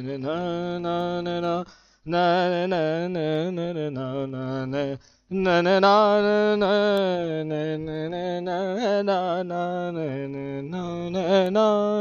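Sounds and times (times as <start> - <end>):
man singing alone: 0.0 - 12.0.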